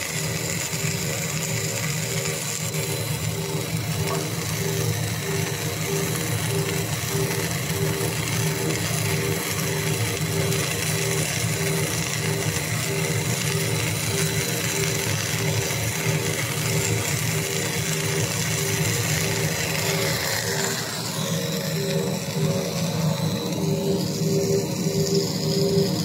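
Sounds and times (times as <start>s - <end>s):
machine hum and hiss: 0.0s - 26.0s
pulsing tone: 0.8s - 26.0s.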